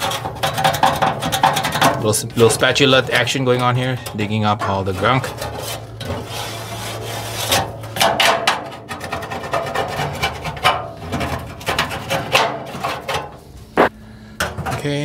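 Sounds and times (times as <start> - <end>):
scraper scraping grease from grill: 0.0 - 13.4.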